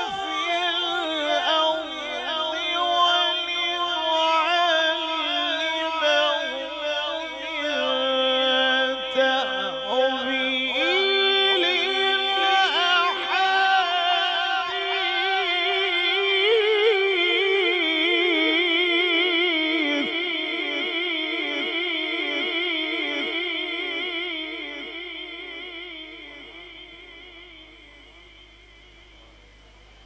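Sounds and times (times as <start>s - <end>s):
man reciting melodically into microphone: 0.0s - 30.0s.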